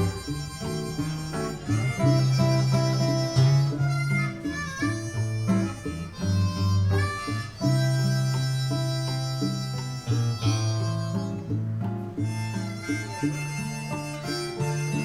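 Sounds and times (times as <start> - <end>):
bass line: 0.0 - 15.0
guitar chords: 0.0 - 15.0
harmonica slow melody: 0.0 - 15.0.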